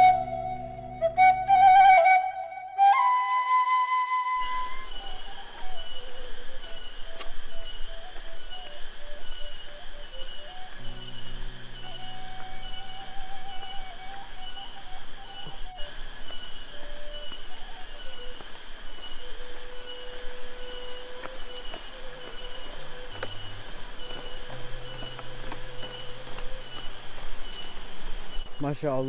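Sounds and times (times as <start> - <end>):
slow music with held notes: 0.0 - 28.1
insects chirping: 4.3 - 29.0.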